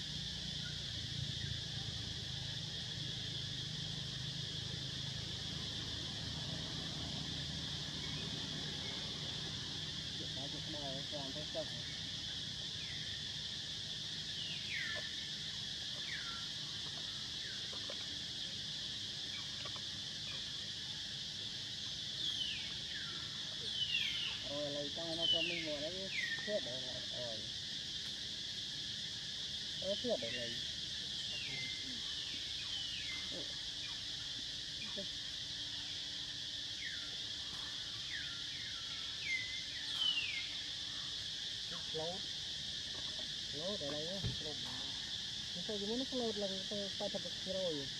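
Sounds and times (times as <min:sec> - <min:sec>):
high insect buzz: 0:00.0 - 0:47.9.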